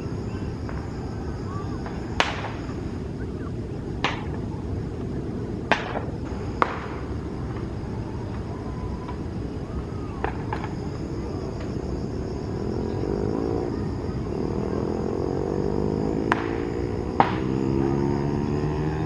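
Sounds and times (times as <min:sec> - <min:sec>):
distant engine drone: 0:00.0 - 0:19.0
high insect trill: 0:00.0 - 0:19.0
low steady rumble: 0:00.0 - 0:19.0.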